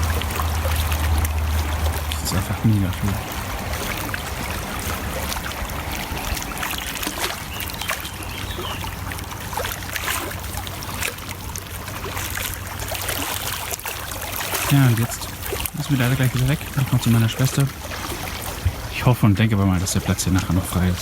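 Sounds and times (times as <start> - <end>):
low steady rumble: 0.0 - 21.0
water lapping at shore: 0.0 - 21.0.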